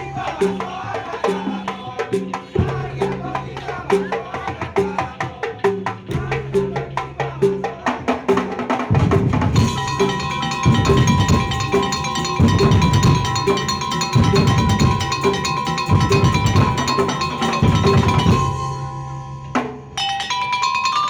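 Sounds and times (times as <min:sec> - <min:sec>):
wooden and drum percussion music: 0:00.0 - 0:21.0.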